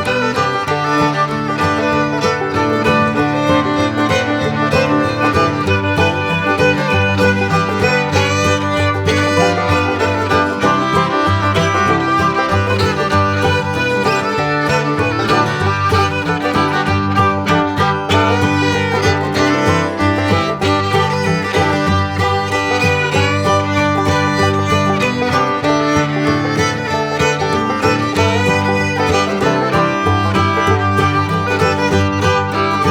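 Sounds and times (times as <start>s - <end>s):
country fiddle tune: 0.0s - 32.9s.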